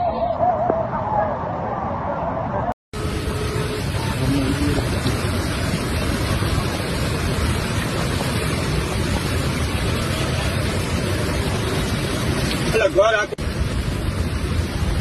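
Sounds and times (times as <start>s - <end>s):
heavy rain pouring: 3.0s - 15.0s.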